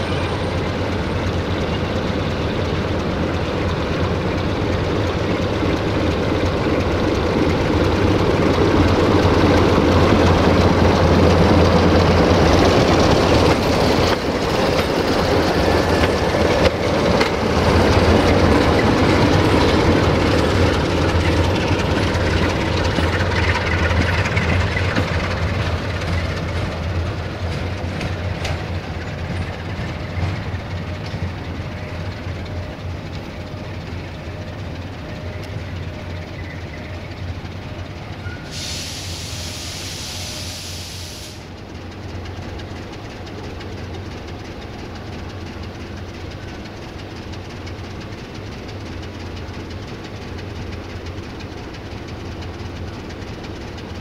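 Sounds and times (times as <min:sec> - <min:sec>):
locomotive engine drone: 0:00.0 - 0:54.0
train wheels clattering over rails: 0:00.0 - 0:54.0.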